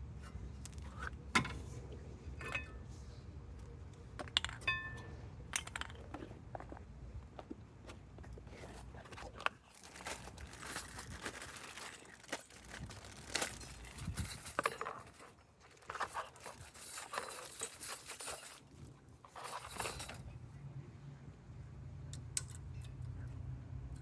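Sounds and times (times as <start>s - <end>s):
rustling and scraping: 0.0s - 4.6s, 5.6s - 20.5s.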